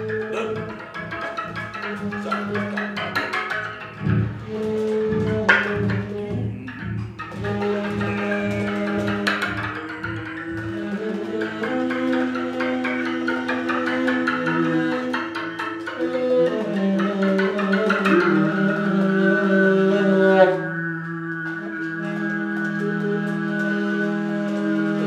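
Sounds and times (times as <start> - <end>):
sustained drone tones: 0.0 - 25.0.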